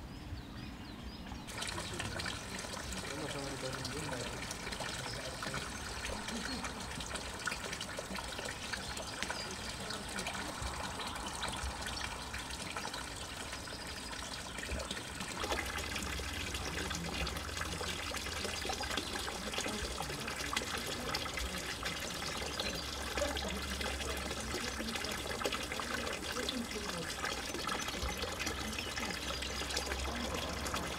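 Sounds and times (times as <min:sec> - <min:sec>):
fountain water trickling into trough: 0:01.4 - 0:30.9.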